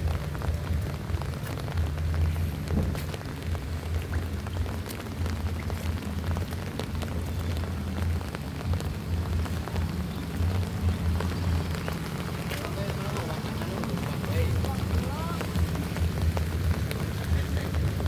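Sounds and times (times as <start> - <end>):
low rain rumble: 0.0 - 18.0
rain drops ticking: 0.0 - 18.0.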